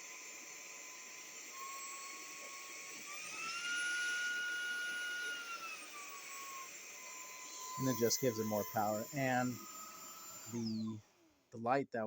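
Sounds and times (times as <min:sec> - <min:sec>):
stick vacuum motor whining: 0:00.0 - 0:11.4.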